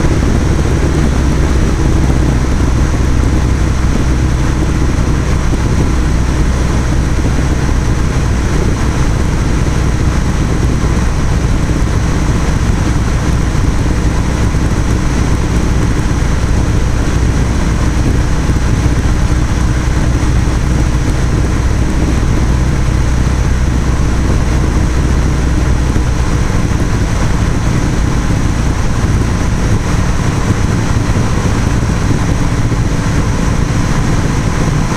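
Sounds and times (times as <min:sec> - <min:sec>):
airplane engine and propeller droning: 0:00.0 - 0:34.9
rushing noise: 0:00.0 - 0:34.9.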